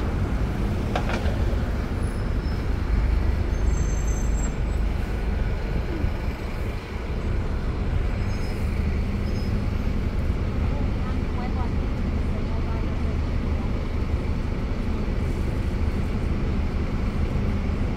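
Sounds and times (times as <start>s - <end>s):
bus engine drone: 0.0s - 17.9s
road rumble: 0.0s - 17.9s
traffic noise: 0.0s - 17.9s.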